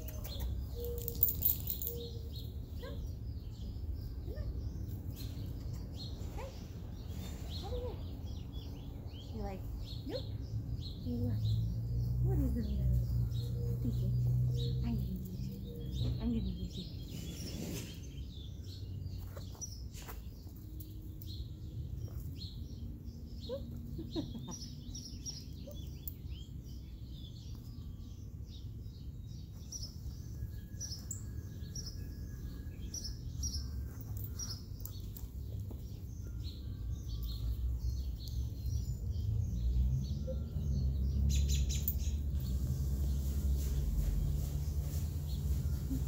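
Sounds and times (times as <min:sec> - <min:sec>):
wild birds chirping: 0:00.0 - 0:46.0.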